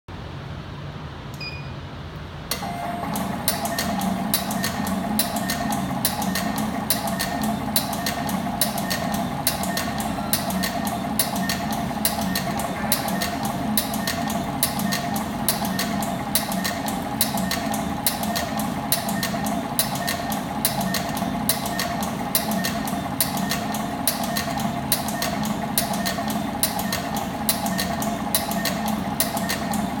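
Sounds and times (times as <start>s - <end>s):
machine motor hum: 2.4s - 30.0s
fast regular clicking: 2.6s - 30.0s.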